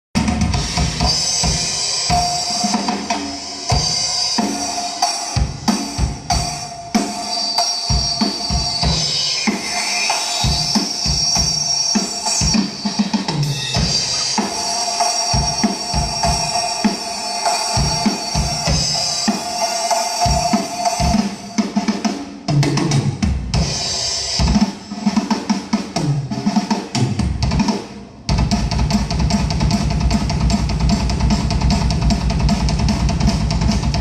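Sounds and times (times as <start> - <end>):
drum kit playing: 0.2 - 34.0.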